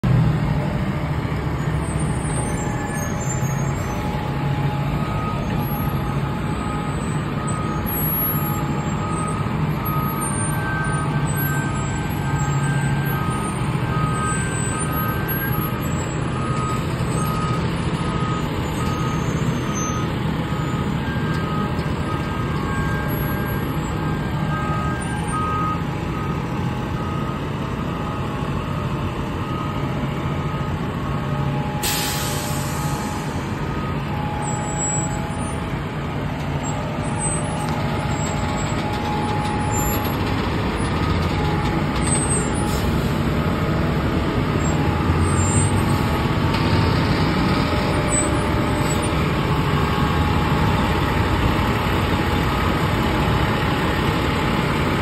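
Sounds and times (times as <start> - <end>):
fire truck engines humming: 0.0 - 55.0.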